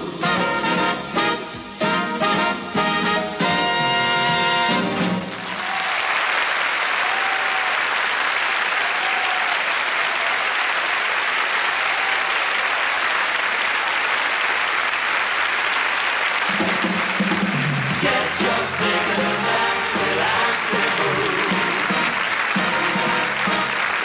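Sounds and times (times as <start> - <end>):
audience applauding: 3.4 - 24.0.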